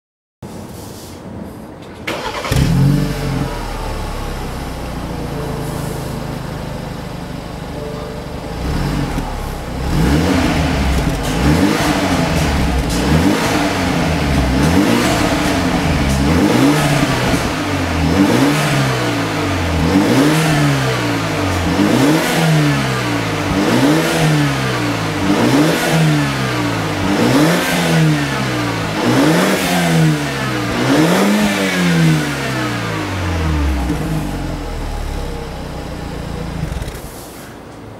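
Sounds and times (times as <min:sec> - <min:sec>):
car engine idling and revving: 0:02.0 - 0:37.3.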